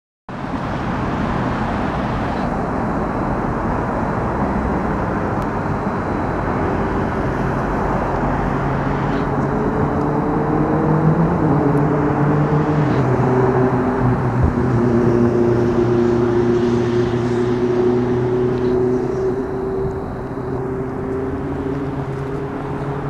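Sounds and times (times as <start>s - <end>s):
city road traffic: 0.3s - 23.0s
vehicle engine hum rising in pitch: 0.3s - 23.0s.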